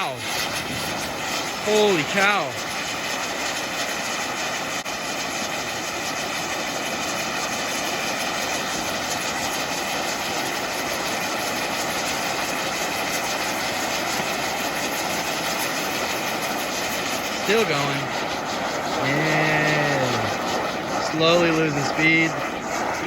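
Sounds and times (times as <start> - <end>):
firework fountain hissing: 0.0 - 23.0.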